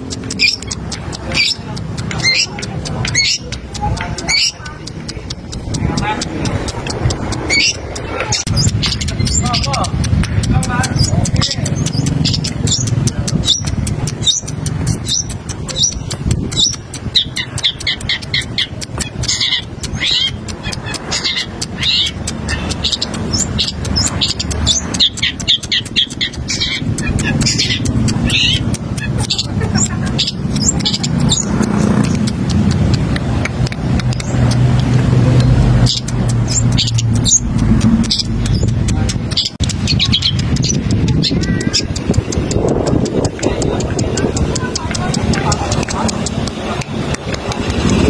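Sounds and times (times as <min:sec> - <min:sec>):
vehicle engine humming: 0:00.0 - 0:48.0.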